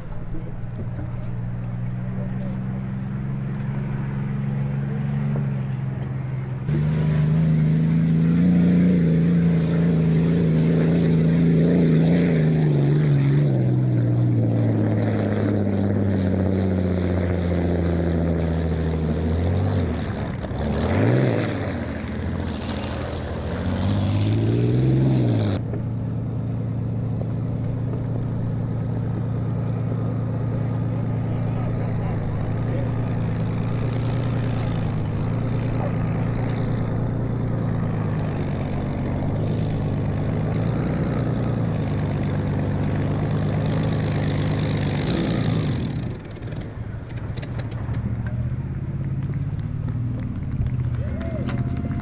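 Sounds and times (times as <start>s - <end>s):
engine revving: 0.0s - 52.0s
piston aircraft engine running: 0.0s - 52.0s.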